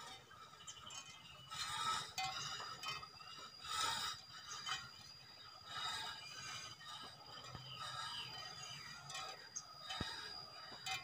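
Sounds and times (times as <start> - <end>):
faint high-pitched bird chirping: 0.0 - 11.0
thin high whine: 0.0 - 11.0.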